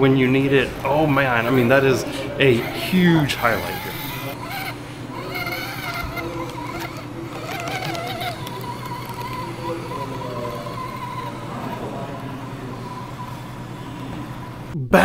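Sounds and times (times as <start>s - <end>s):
toy car motor whining: 0.8s - 14.7s.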